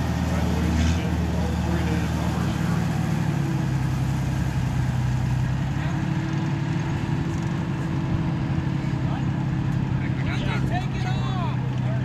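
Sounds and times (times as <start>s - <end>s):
higher engine tone: 0.0s - 12.0s
military truck engine running: 0.0s - 12.0s.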